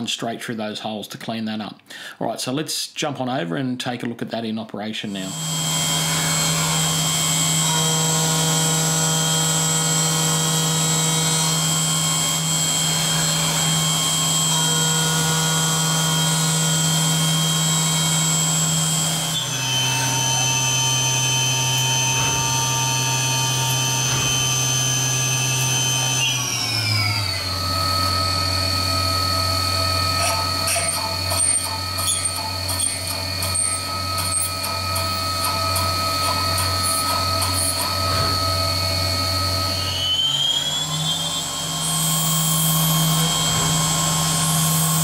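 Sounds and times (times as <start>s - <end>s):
milling machine spindle whine: 5.2s - 45.0s.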